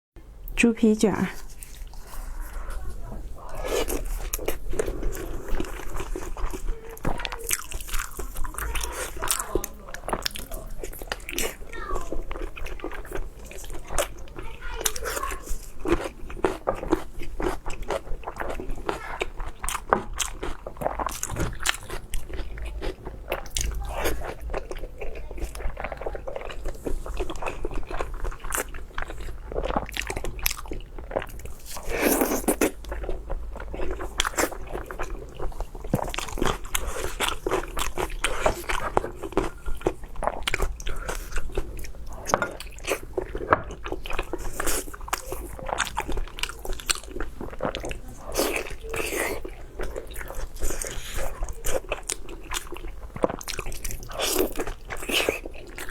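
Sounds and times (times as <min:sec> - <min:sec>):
person chewing wet smacks: 0:01.4 - 0:55.9.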